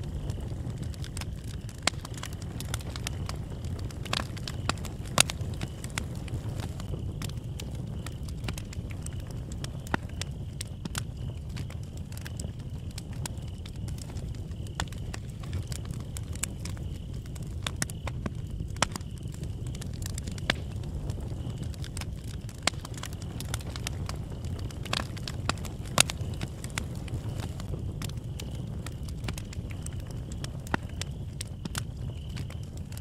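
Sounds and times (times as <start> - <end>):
bonfire crackling and popping: 0.0 - 33.0
low fire rumble: 0.0 - 33.0.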